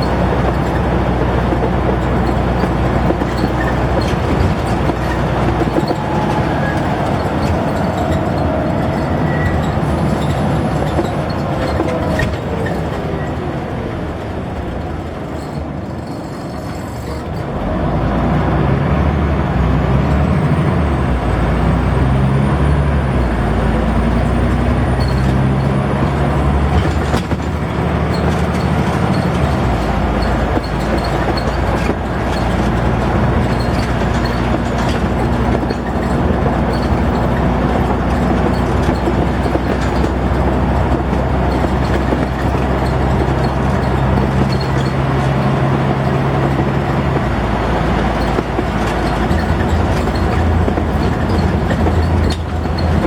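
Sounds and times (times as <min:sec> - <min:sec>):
bus engine: 0:00.0 - 0:53.0.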